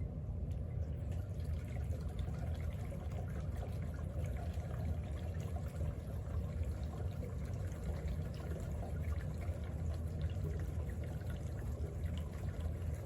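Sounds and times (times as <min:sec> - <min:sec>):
humidifier humming: 0:00.0 - 0:13.0
water trickling and bubbling: 0:00.9 - 0:13.0.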